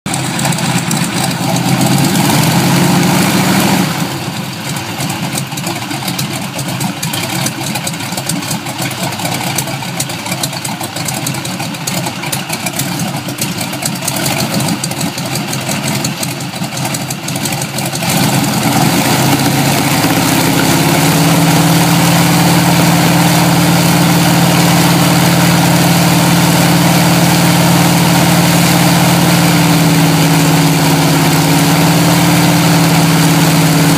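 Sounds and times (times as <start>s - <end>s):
radial aircraft engine running: 0.1s - 33.9s.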